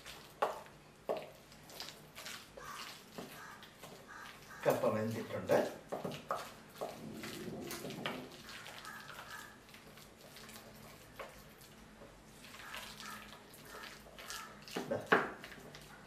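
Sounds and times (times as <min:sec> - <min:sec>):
spatula scraping and mashing in pot: 0:00.0 - 0:16.0.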